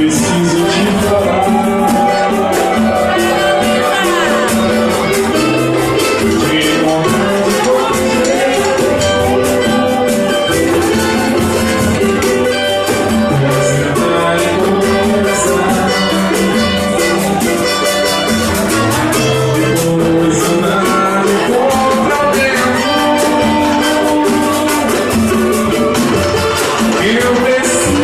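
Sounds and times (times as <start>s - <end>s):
percussion beat: 0.0s - 28.0s
plucked strings: 0.0s - 28.0s
voices singing: 0.0s - 28.0s.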